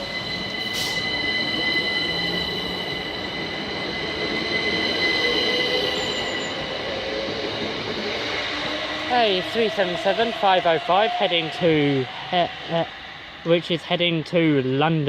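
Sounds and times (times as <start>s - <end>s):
high-pitched squeal: 0.0s - 14.3s
electric train running past: 0.0s - 15.0s.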